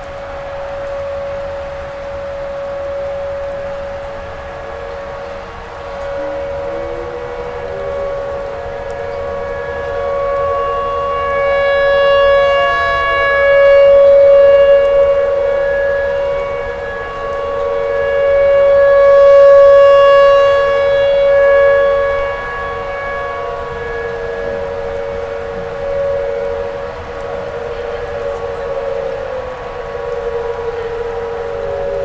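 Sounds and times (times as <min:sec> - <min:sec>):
tornado siren steady tone: 0:00.0 - 0:32.0.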